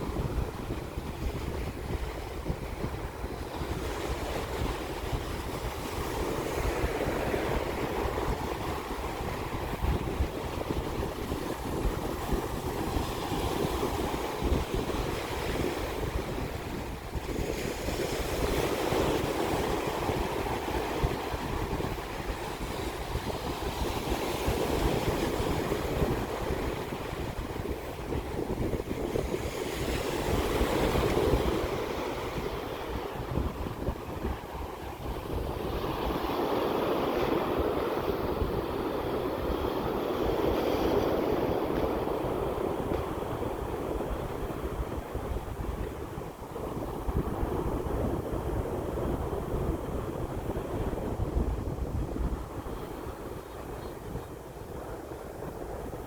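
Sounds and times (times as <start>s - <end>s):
ocean waves washing ashore: 0.0s - 56.0s
wind rumbling on microphone: 0.0s - 56.0s.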